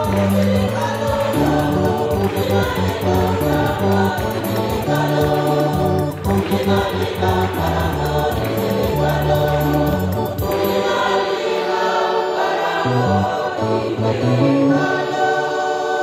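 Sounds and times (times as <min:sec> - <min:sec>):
choir singing in harmony: 0:00.0 - 0:16.0.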